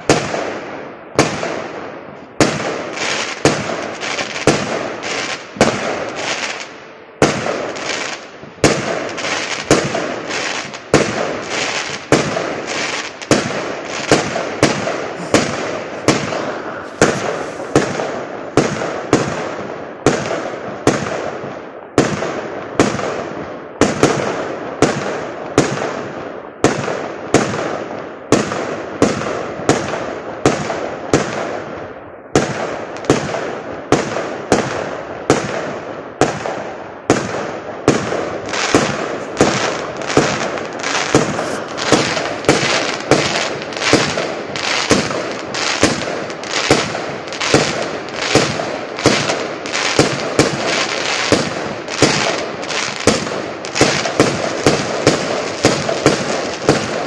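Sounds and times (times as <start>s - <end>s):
fireworks bangs with hiss: 0.0s - 57.0s.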